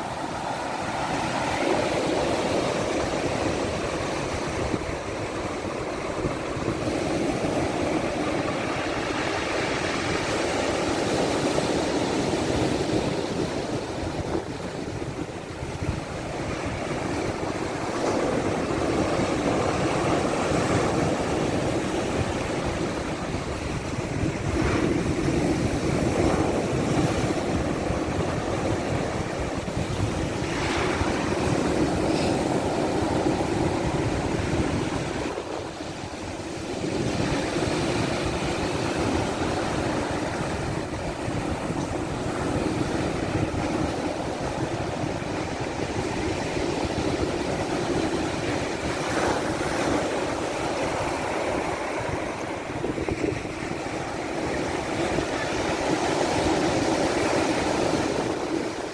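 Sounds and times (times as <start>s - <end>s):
waves breaking on shore: 0.0s - 58.9s.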